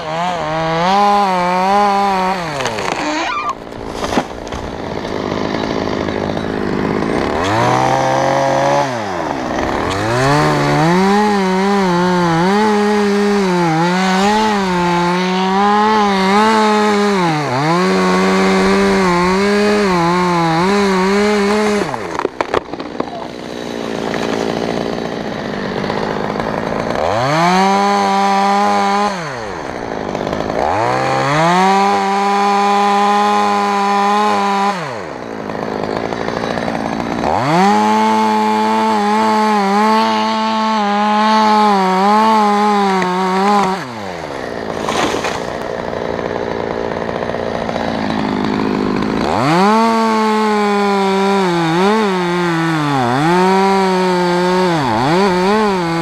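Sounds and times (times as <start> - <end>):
chainsaw cutting wood: 0.0 - 56.0
chainsaw revving: 0.0 - 56.0.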